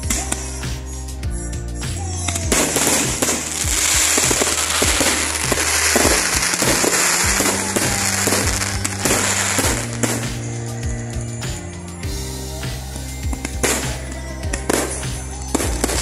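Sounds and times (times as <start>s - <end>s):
music with deep bass line: 0.0s - 16.0s
fireworks bursting: 2.2s - 16.0s.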